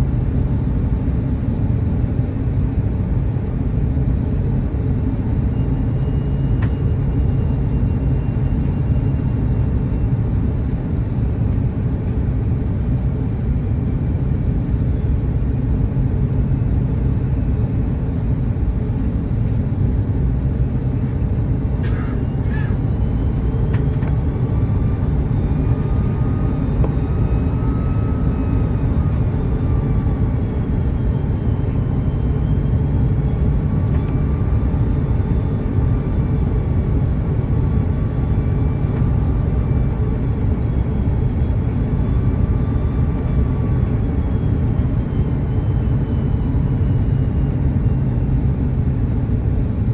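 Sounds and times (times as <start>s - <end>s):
airplane cabin rumble: 0.0s - 49.9s
faint whining tones: 3.5s - 49.9s.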